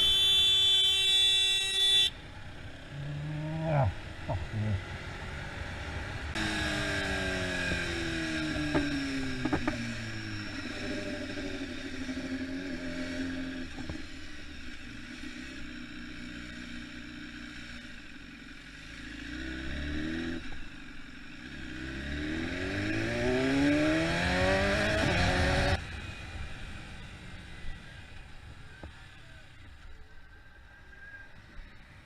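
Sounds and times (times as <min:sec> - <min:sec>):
motorcycle engine accelerating: 0:01.9 - 0:32.0.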